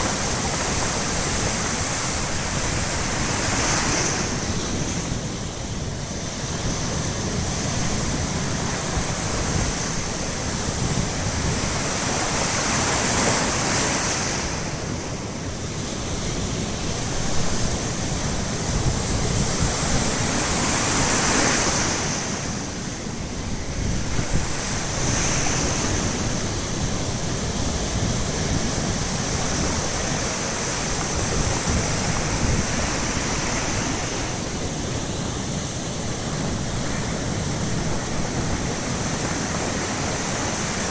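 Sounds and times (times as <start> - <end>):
surf breaking on shore: 0.0 - 40.9
wind buffeting microphone: 0.0 - 40.9.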